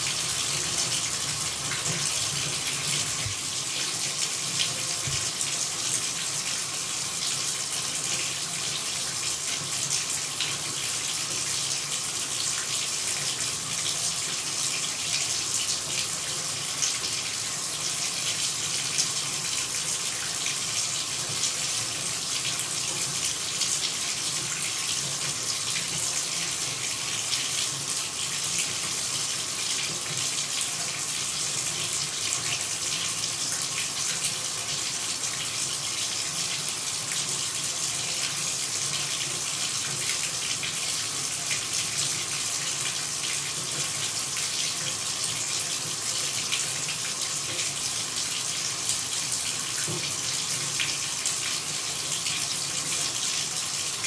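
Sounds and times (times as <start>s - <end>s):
water running: 0.0s - 54.0s.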